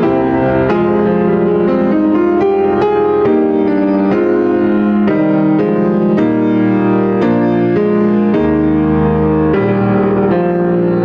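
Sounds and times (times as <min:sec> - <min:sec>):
piano playing slow chords: 0:00.0 - 0:11.0.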